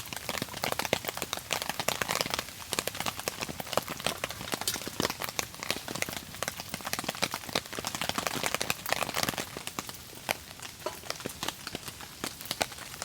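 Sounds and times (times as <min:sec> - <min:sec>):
campfire crackling: 0:00.0 - 0:13.0
raindrops on a tarp: 0:00.0 - 0:13.0.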